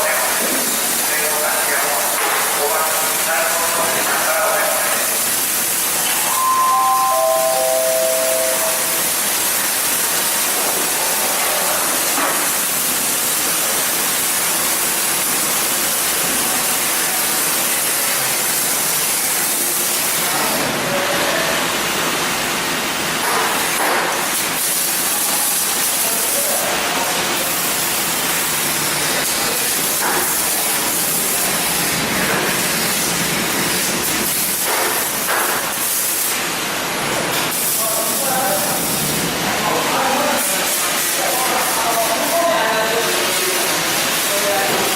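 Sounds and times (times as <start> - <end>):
welding arc hissing: 0.0 - 20.4, 22.6 - 44.9.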